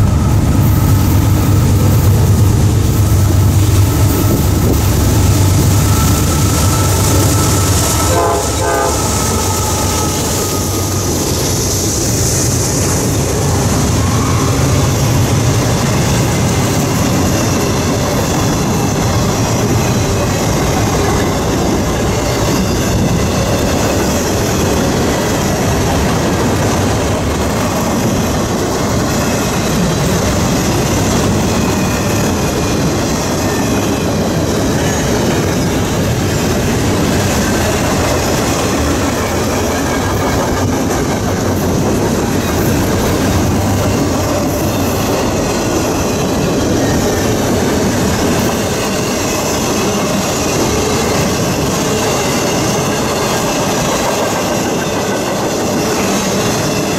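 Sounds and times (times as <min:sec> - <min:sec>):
freight train wheels rolling: 0:00.0 - 0:56.9.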